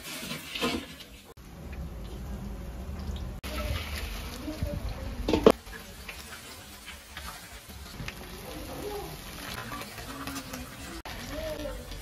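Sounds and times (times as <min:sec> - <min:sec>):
fritters sizzling in hot oil: 0:01.2 - 0:12.0.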